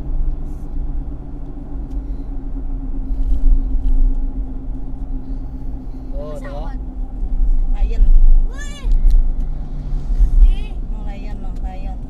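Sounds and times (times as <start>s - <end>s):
low drone: 0.0s - 12.0s
road and engine rumble: 0.0s - 12.0s.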